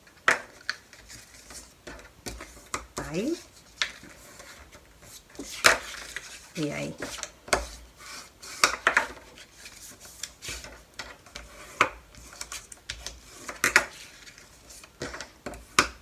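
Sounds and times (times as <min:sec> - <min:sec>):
paper scraping and rustling: 0:00.4 - 0:15.8.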